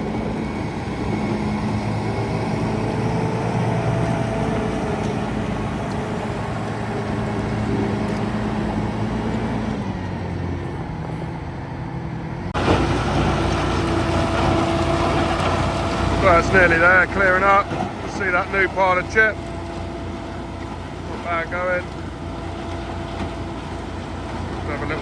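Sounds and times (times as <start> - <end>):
diesel engine working: 0.0 - 25.0.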